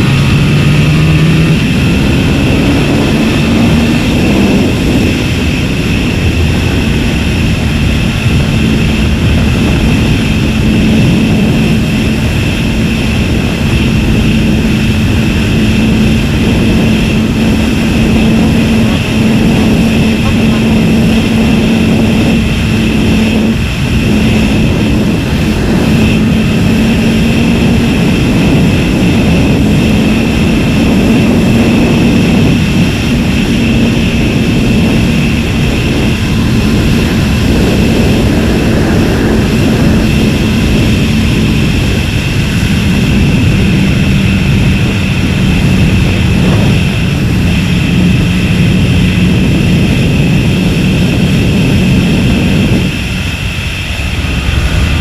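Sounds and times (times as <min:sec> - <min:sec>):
motorcycle engine cruising: 0:00.0 - 0:55.0
wind rush: 0:00.0 - 0:55.0.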